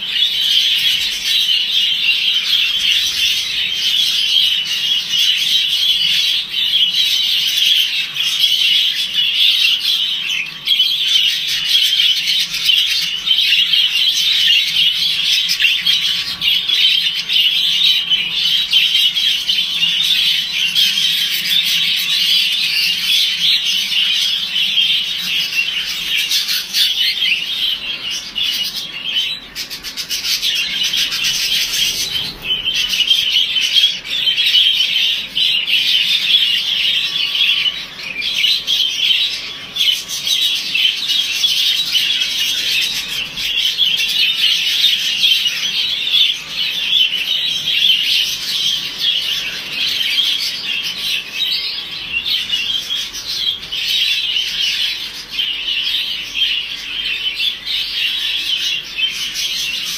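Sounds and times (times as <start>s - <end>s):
flock of budgerigars chattering: 0.0s - 59.9s.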